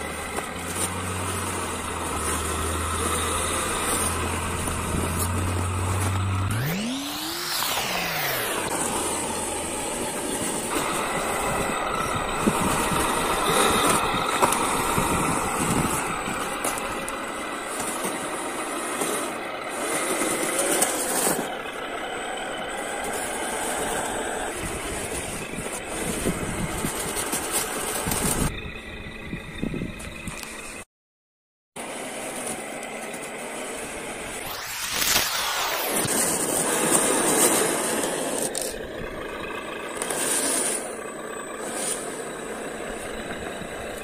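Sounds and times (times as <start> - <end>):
toy truck motor running: 0.0 - 30.8, 31.8 - 44.0.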